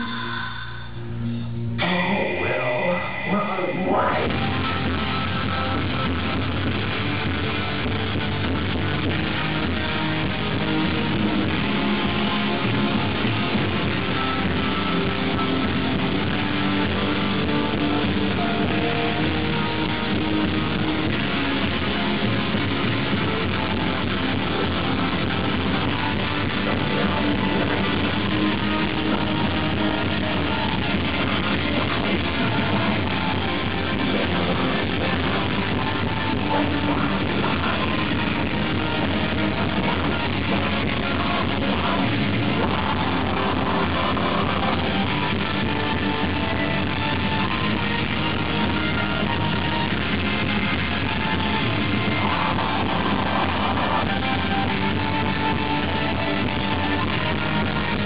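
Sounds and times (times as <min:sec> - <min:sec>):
electric guitars: 0:01.0 - 0:58.0
live rock band playing: 0:04.1 - 0:58.0.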